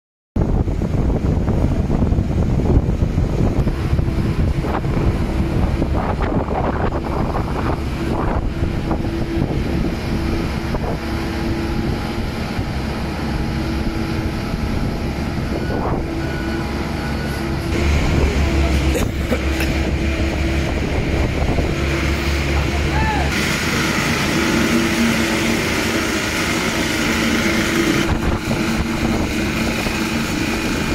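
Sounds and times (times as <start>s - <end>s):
construction machinery engines humming: 0.4s - 30.9s.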